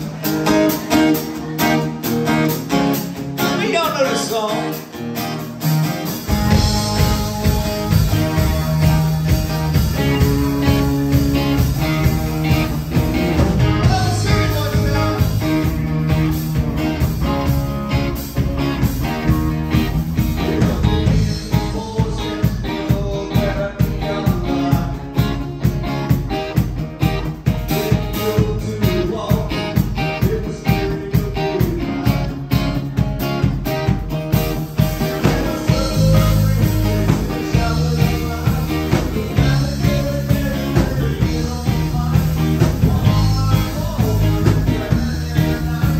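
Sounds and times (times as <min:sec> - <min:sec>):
live rock band playing: 0:00.0 - 0:45.9.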